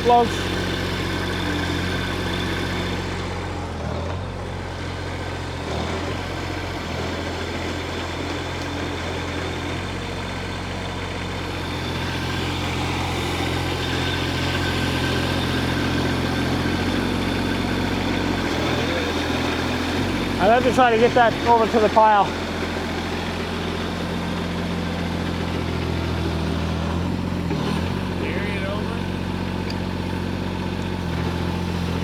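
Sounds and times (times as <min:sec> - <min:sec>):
mini excavator engine running: 0:00.0 - 0:32.0.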